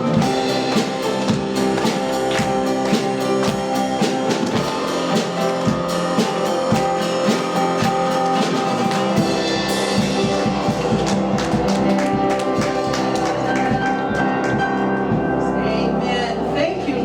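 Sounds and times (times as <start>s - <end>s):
drum kit beat: 0.0s - 15.7s
worship band music: 0.0s - 17.0s.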